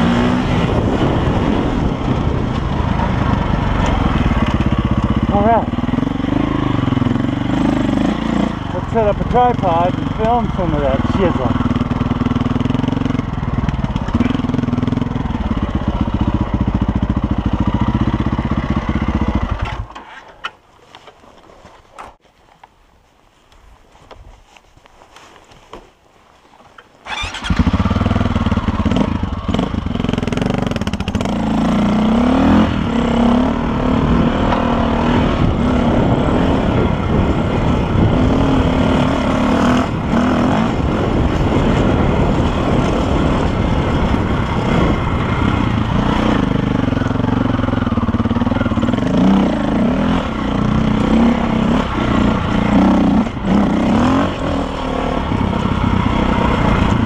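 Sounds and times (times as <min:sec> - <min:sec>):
dirt bike engine revving: 0:00.0 - 0:19.9, 0:27.0 - 0:57.0.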